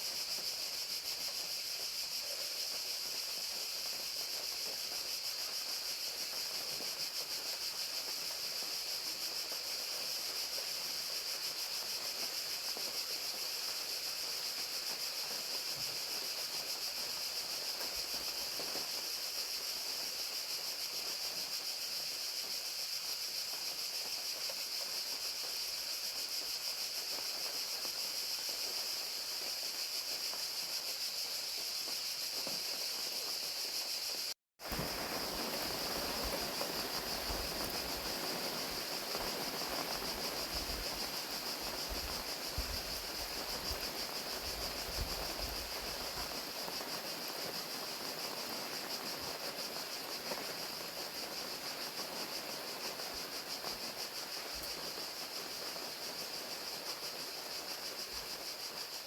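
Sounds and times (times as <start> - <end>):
crickets chirping: 0.0 - 59.0
rain hiss: 0.0 - 59.0.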